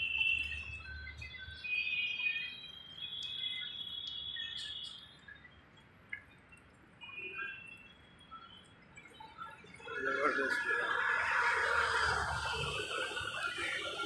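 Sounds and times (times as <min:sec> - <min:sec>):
birds chirping: 0:00.0 - 0:11.4.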